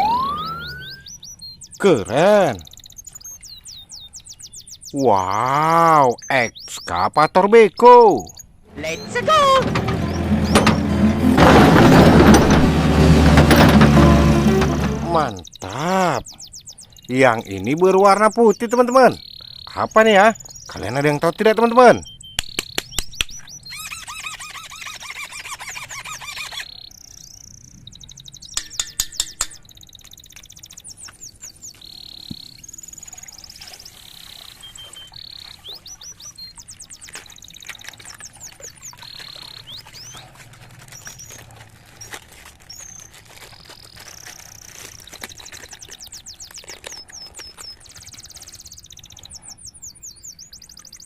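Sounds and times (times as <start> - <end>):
fast pulsing bird trill: 0.0 - 11.0, 15.2 - 44.4, 45.6 - 51.0
birds chirping and calling: 0.0 - 13.8, 14.5 - 51.0.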